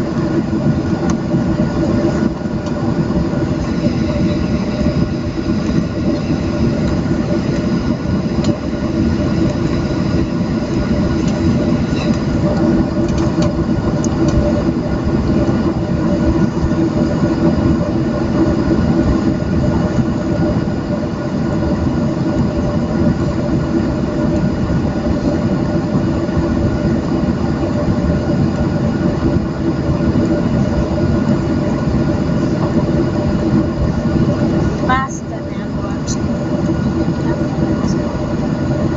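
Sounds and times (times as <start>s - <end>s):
jet engines humming: 0.0s - 38.9s
rumble of rolling airframe: 0.0s - 38.9s
steady whine tones: 0.0s - 38.9s.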